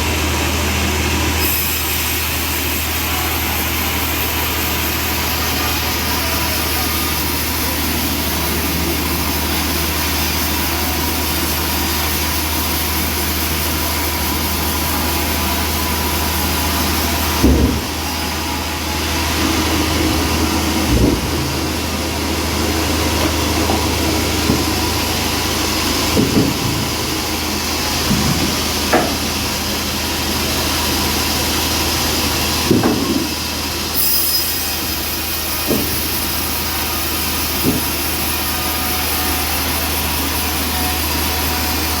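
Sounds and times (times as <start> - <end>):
band saw cutting log: 0.0 - 42.0.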